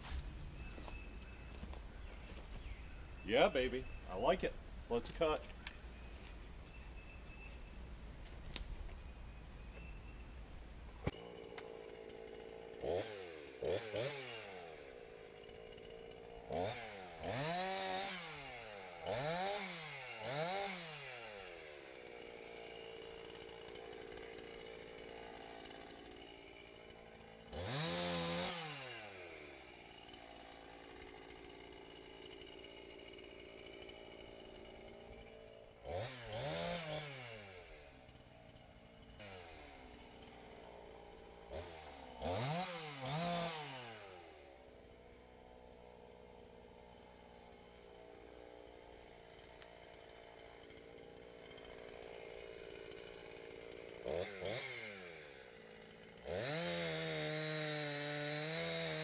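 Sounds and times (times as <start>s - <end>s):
chainsaw revving and idling: 0.0s - 59.0s.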